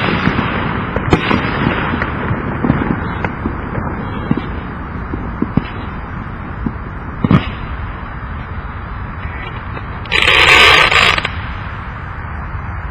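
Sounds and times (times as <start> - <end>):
firework hissing burst: 0.0 - 11.9
background noise: 0.0 - 12.9.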